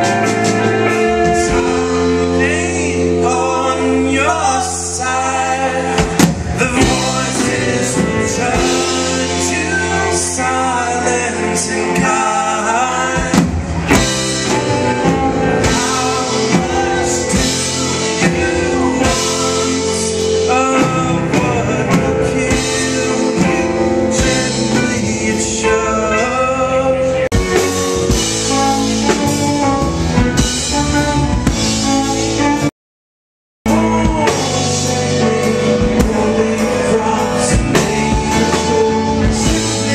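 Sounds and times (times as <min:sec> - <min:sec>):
drum kit: 0:00.0 - 0:32.7, 0:33.7 - 0:39.9
electric guitars: 0:00.0 - 0:32.7, 0:33.7 - 0:39.9
keyboard: 0:00.0 - 0:32.7, 0:33.7 - 0:39.9
man singing: 0:00.0 - 0:32.7, 0:33.7 - 0:39.9.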